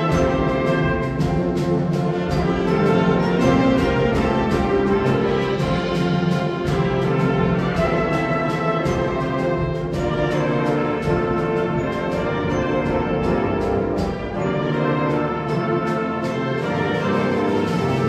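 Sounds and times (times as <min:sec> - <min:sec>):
wind ensemble playing: 0:00.0 - 0:18.0.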